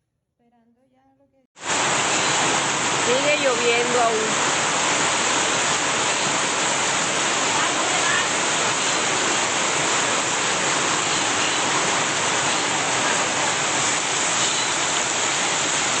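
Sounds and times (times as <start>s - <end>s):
heavy rain: 1.6s - 16.0s
running water: 1.6s - 16.0s.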